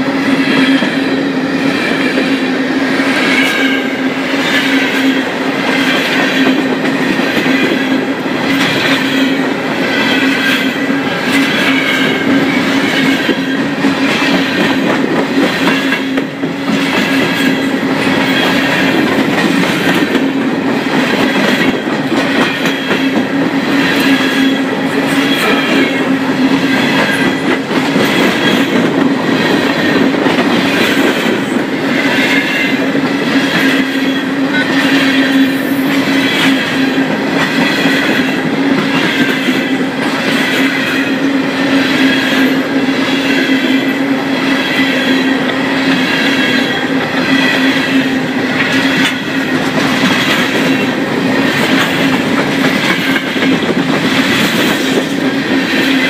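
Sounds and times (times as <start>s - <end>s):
rhythmic clickety-clack: 0.0s - 56.0s
train wheels rumbling on rail: 0.0s - 56.0s.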